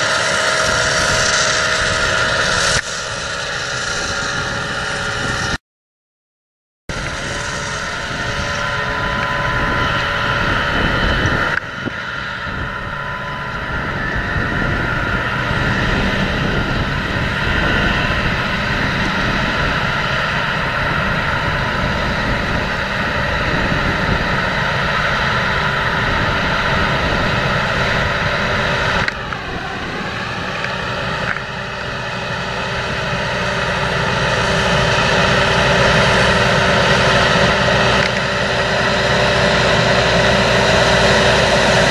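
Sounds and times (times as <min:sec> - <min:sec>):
steady whine: 0:00.0 - 0:05.6, 0:06.9 - 0:41.9
tractor diesel engine drone: 0:00.0 - 0:05.6, 0:06.9 - 0:41.9.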